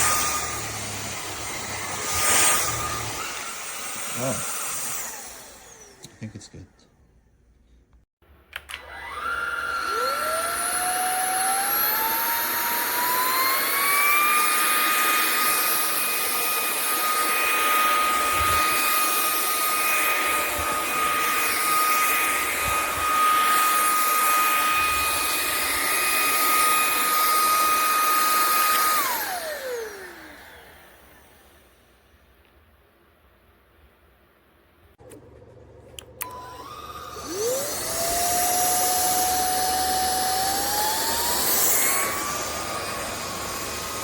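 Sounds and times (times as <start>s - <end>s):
vacuum motor whine: 0.0s - 6.0s, 8.6s - 31.7s, 35.0s - 44.0s.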